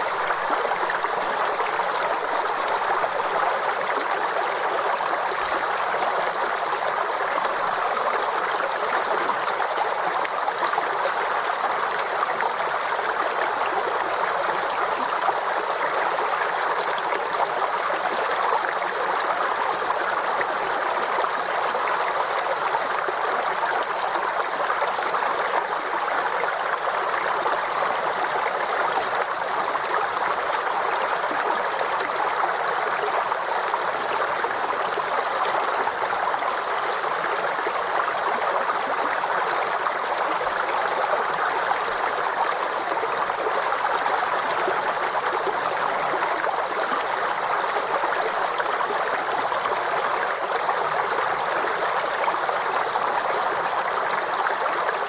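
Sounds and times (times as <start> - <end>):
stream flowing and gurgling: 0.0 - 55.0.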